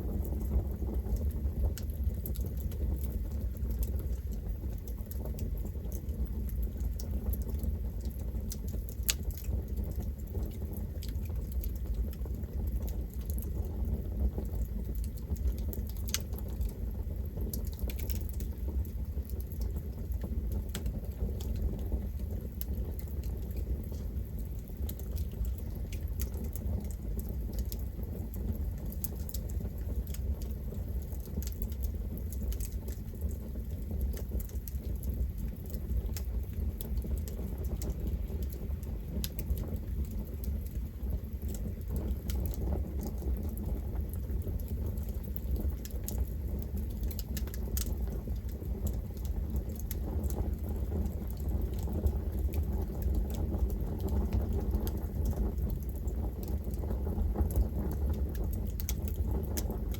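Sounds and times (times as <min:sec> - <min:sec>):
low rumble of flame: 0:00.0 - 0:59.9
wood crackling and popping: 0:00.0 - 0:59.9.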